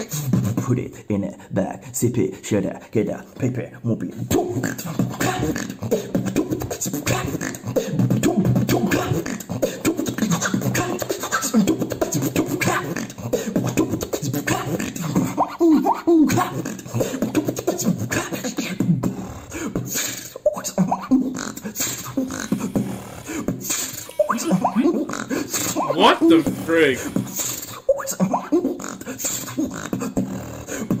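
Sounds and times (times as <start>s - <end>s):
person beatboxing: 0.0s - 3.4s, 4.1s - 31.0s.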